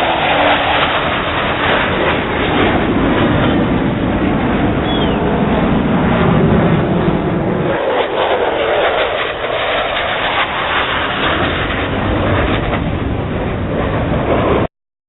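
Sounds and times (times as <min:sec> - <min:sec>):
aircraft engine noise: 0:00.0 - 0:14.7.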